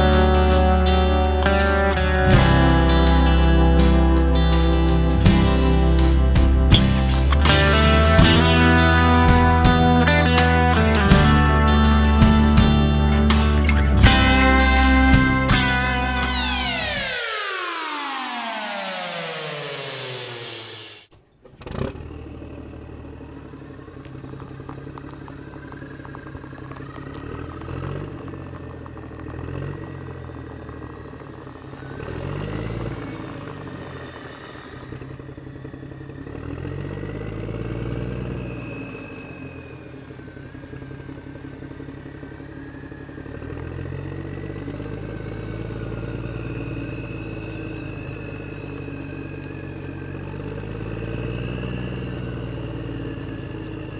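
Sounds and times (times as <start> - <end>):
model vehicle engine whining: 0.0 - 53.9.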